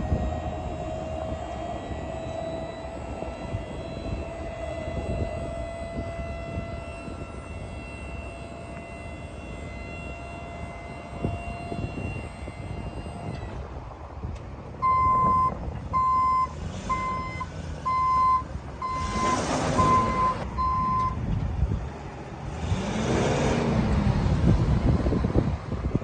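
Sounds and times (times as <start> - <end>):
truck reverse alarm beeping: 0.0 - 21.8, 22.6 - 25.9.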